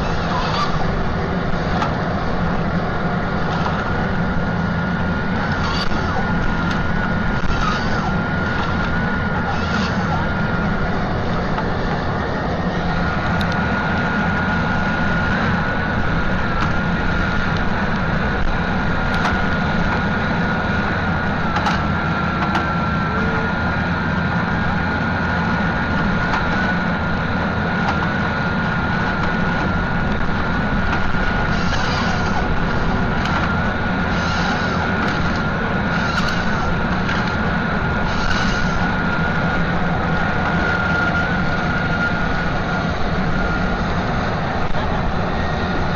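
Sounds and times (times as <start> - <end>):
constant high whine: 0.0 - 45.9
deep engine drone: 0.0 - 45.9.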